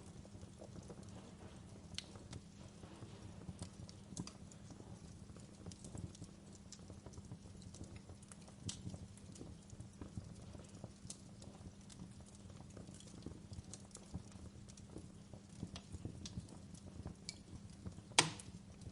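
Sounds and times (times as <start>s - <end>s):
fire rumbling: 0.0s - 18.9s
logs crackling and popping: 0.0s - 18.9s.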